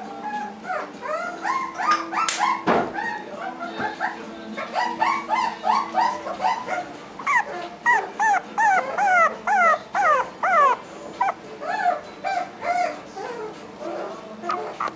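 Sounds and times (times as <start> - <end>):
puppy whining: 0.0 - 14.9.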